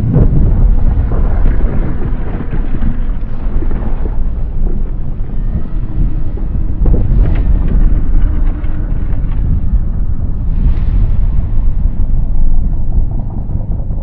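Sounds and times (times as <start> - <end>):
deep monster rumble: 0.0 - 14.0.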